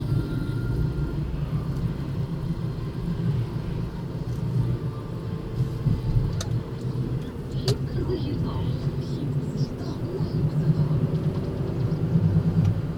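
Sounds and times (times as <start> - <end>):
vehicle engine rumble: 0.0 - 12.9.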